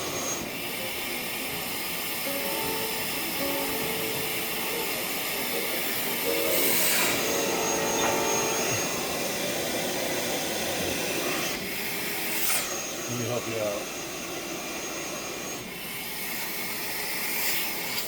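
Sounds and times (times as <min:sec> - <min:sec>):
vacuum motor air hiss: 0:00.0 - 0:18.0.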